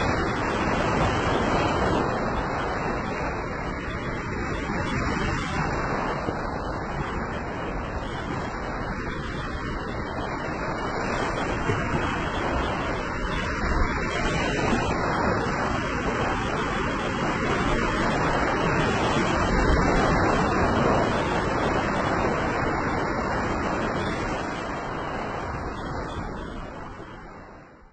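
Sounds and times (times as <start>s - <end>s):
waves breaking on beach: 0.0s - 27.9s.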